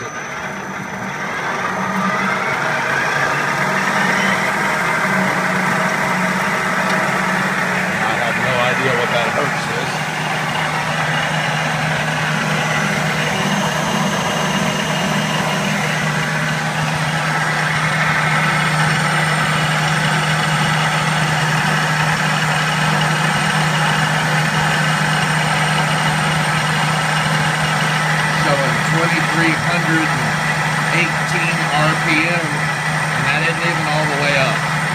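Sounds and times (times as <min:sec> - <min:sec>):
low hum: 0:00.0 - 0:34.9
metal lathe whining: 0:00.0 - 0:34.9.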